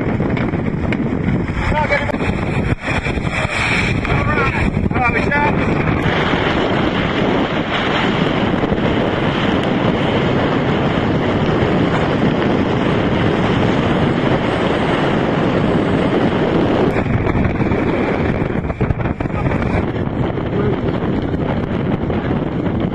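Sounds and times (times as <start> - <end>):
storm wind blasting microphone: 0.0 - 22.9
waves rushing along hull: 0.0 - 22.9.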